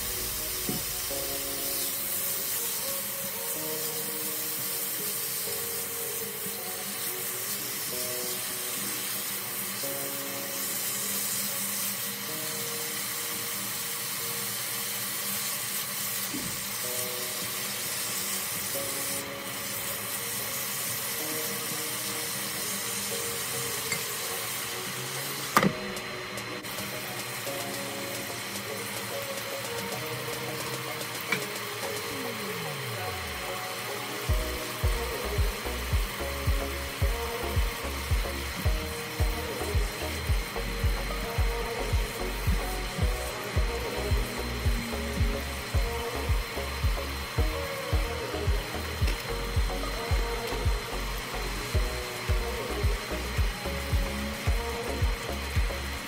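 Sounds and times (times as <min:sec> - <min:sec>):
meat sizzling in a frying pan: 0:00.0 - 0:56.0
soft background music: 0:00.0 - 0:56.0.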